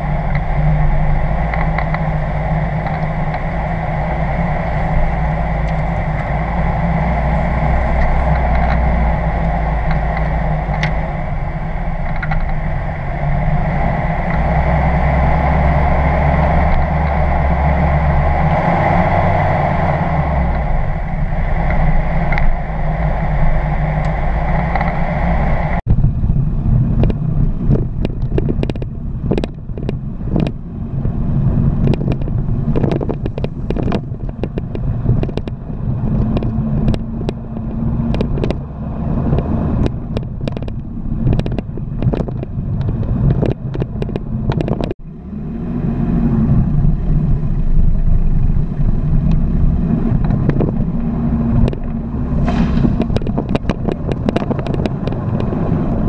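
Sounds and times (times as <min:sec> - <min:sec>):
knocks and rattles on bumpy ground: 0:00.0 - 0:15.1, 0:24.0 - 0:45.0, 0:46.6 - 0:56.0
off-road vehicle engine running: 0:00.0 - 0:56.0.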